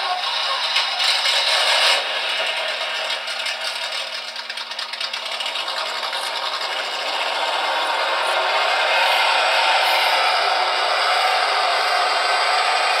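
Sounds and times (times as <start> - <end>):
simulated engine sound from small speaker: 0.0 - 13.0.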